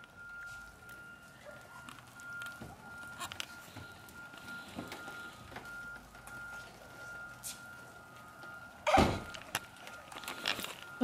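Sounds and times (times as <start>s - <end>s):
faint outdoor background noise: 0.0s - 11.0s
reversing alarm beeping: 0.0s - 11.0s.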